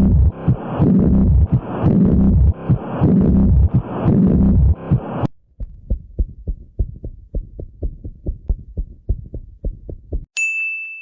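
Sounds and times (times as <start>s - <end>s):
heartbeat through stethoscope: 0.0s - 10.3s.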